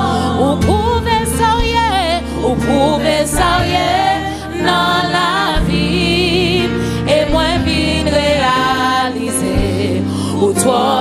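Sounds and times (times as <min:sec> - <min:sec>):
backing singers: 0:00.0 - 0:11.0
bass and keyboard: 0:00.0 - 0:11.0
woman singing gospel lead: 0:00.0 - 0:11.0.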